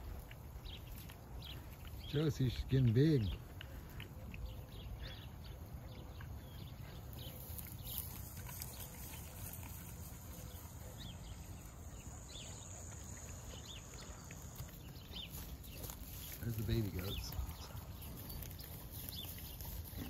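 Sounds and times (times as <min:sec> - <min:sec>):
pig chewing and crunching: 0:00.0 - 0:20.0.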